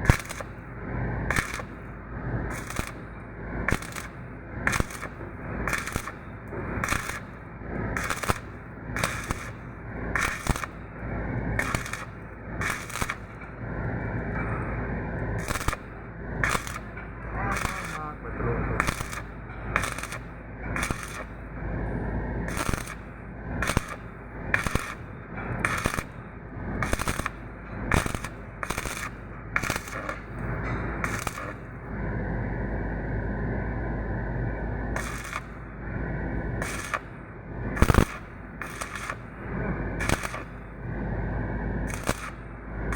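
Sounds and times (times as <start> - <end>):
welding crackling: 0.0 - 32.0, 34.9 - 42.9
steady low hum: 0.0 - 42.9.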